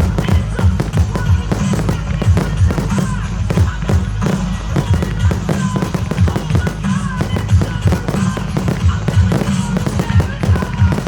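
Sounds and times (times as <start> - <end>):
fireworks bursting: 0.0 - 11.0
music with heavy pulsing beat: 0.0 - 11.0.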